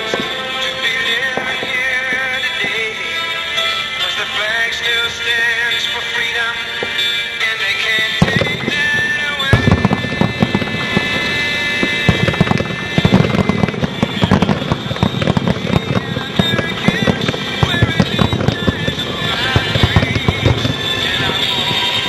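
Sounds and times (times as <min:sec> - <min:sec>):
fireworks bangs and crackles: 0:00.0 - 0:22.0
music: 0:00.0 - 0:22.0.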